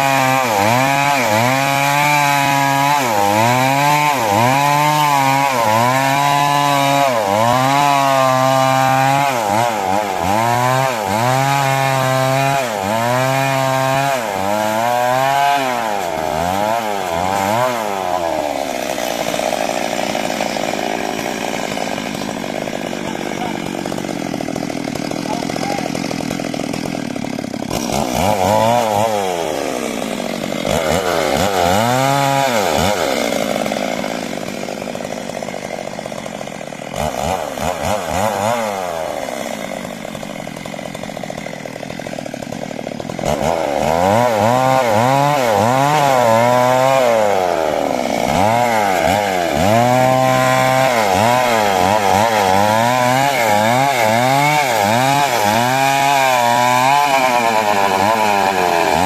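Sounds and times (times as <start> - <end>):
chainsaw cutting timber: 0.0 - 59.0.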